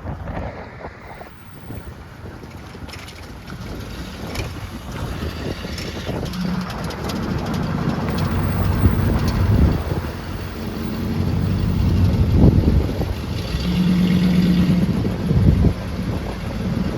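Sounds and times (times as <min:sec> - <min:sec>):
car engine running: 0:01.0 - 0:16.9.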